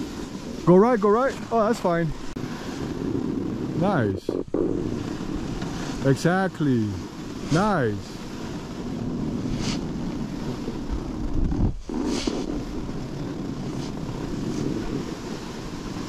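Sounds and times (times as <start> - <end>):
snowboard edges scraping snow: 0.0 - 16.0
wind rumbling on microphone: 0.0 - 16.0.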